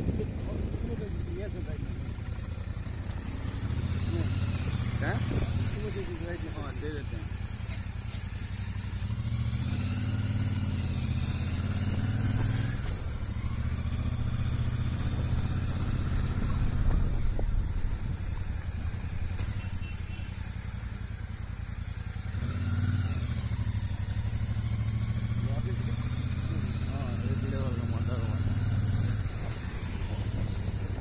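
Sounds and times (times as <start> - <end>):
motorcycle engine rumble: 0.0 - 31.0.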